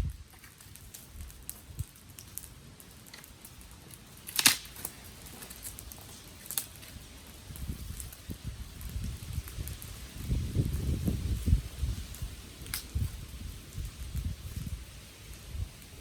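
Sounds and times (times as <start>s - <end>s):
dry twigs cracking: 0.0s - 16.0s
low rustle: 0.0s - 16.0s.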